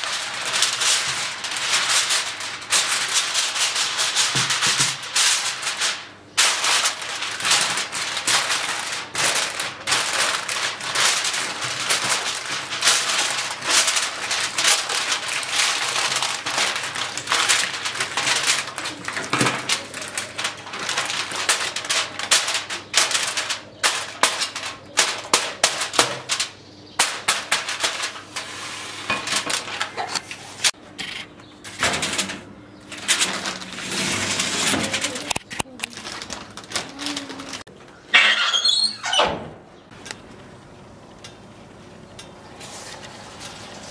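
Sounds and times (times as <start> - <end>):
aluminium foil crinkling: 0.0 - 30.8, 31.6 - 38.9, 39.9 - 43.9.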